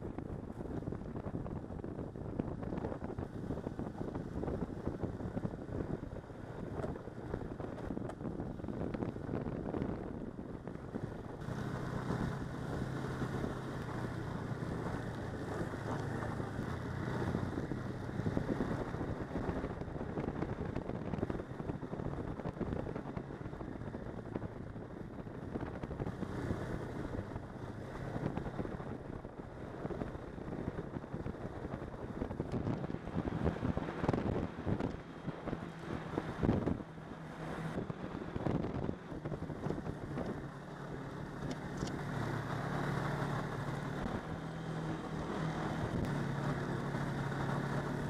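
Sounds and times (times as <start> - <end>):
snowmobile engine running: 0.0 - 48.0
wind on microphone: 0.0 - 48.0.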